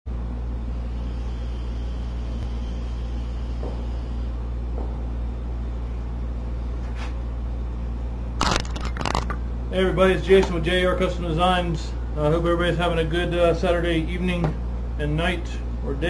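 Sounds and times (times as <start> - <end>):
steady low hum: 0.1 - 16.0.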